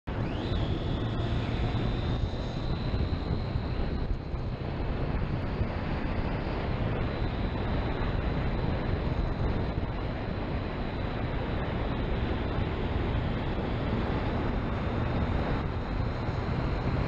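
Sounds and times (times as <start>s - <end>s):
motorcycle engine running: 0.1s - 17.0s
wind rushing over camera: 0.1s - 17.0s.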